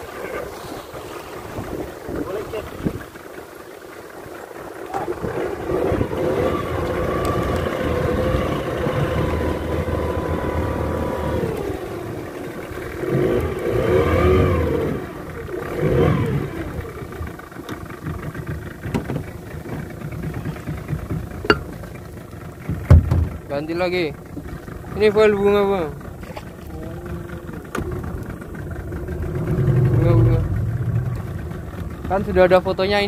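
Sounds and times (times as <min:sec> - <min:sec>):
boat engine running and revving: 0:00.0 - 0:33.0.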